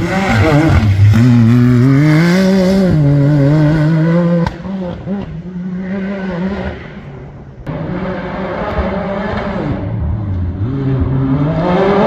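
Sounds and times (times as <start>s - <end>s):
vehicle engine revving high: 0.0s - 12.0s.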